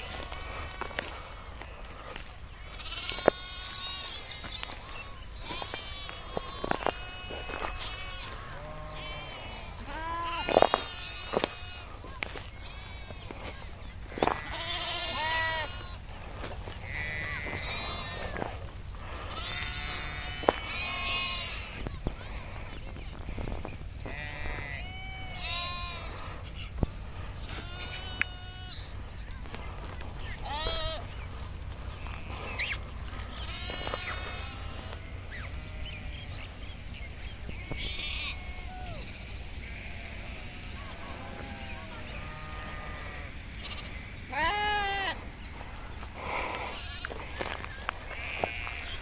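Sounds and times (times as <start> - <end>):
sheep bleating: 1.9 - 22.8, 24.0 - 29.0, 29.6 - 31.2, 32.0 - 36.3, 37.7 - 45.2, 46.2 - 49.0.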